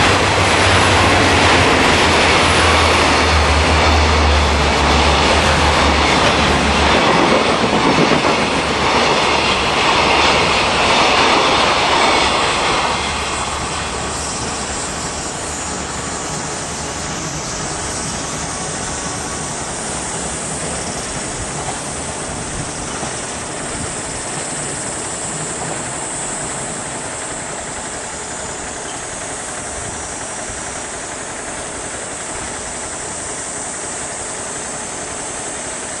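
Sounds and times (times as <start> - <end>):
freight train rumbling on rails: 0.0 - 36.0
high hiss: 0.0 - 36.0.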